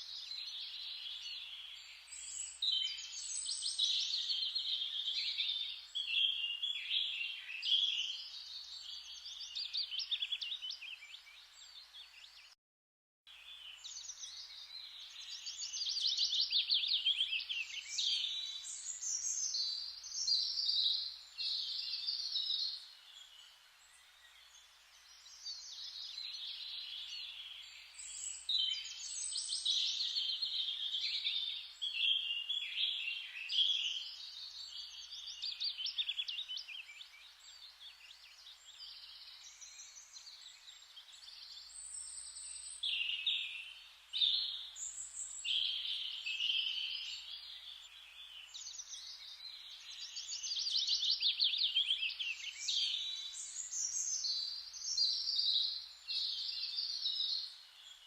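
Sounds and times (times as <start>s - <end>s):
small birds chirping: 0.0s - 12.6s, 13.3s - 58.0s.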